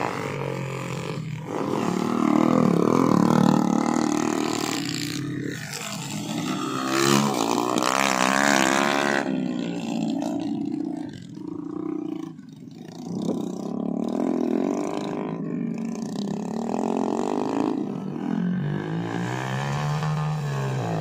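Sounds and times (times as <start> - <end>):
motorbike engines revving: 0.0 - 21.0.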